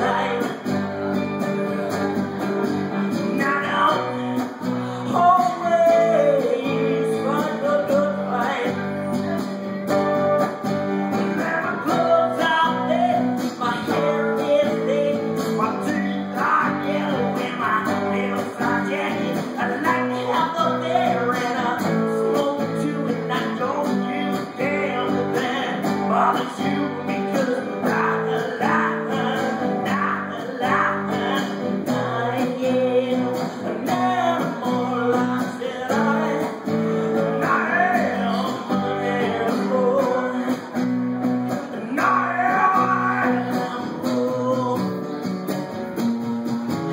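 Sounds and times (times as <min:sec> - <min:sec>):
strummed guitar song: 0:00.0 - 0:46.9.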